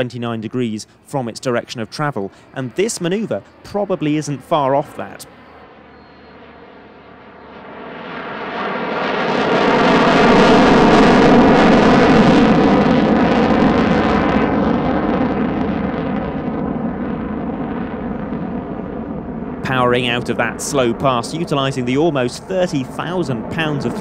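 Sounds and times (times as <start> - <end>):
fighter jet flying past: 0.0 - 24.0.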